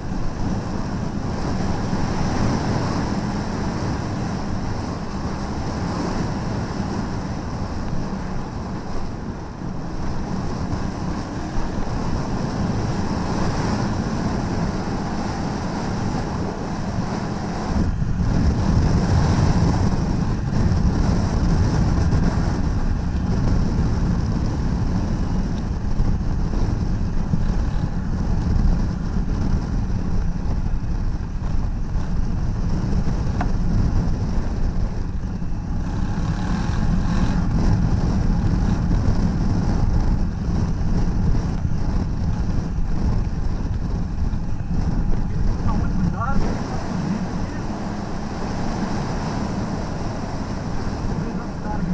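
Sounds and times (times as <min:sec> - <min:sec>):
motorcycle engine rumble: 0:00.0 - 0:51.9
wind rushing over microphone: 0:00.0 - 0:51.9.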